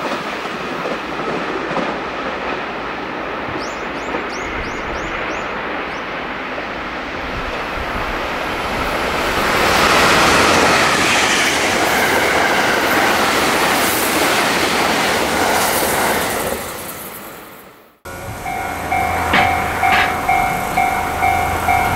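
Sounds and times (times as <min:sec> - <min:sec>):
train passing at high speed: 0:00.0 - 0:21.9.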